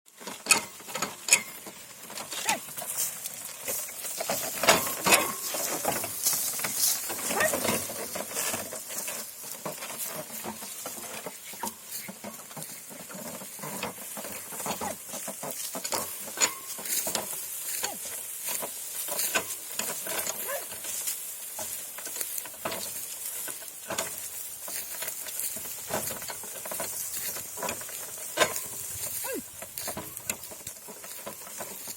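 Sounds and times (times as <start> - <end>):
cart wheels rattling and creaking: 0.1 - 31.9.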